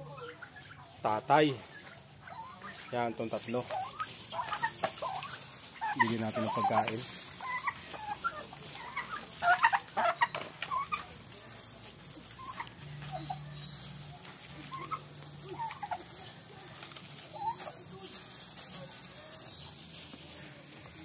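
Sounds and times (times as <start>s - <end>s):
turkeys calling: 0.0s - 21.0s.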